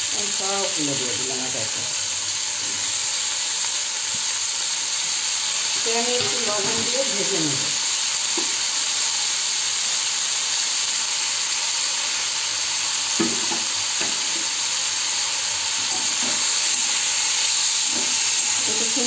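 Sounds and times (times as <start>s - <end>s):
vegetables sizzling in hot oil: 0.0s - 19.0s.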